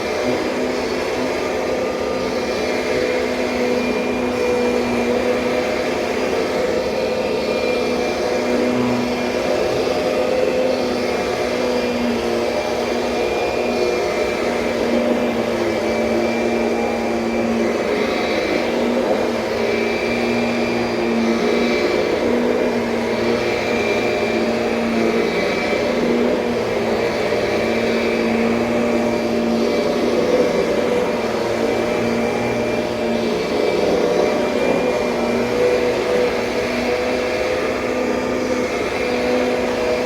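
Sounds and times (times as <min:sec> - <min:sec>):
vacuum cleaner motor whine: 0:00.0 - 0:40.0.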